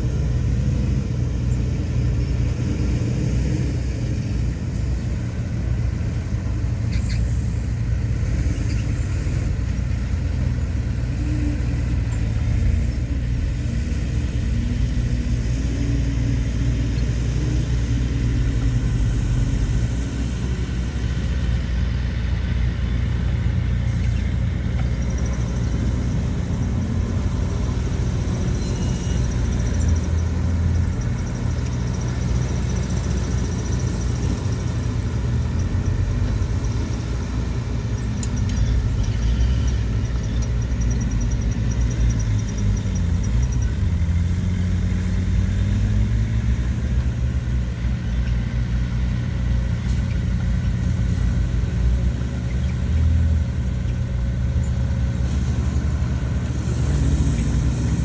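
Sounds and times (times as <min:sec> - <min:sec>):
heavy machinery engine rumble: 0:00.0 - 0:58.0.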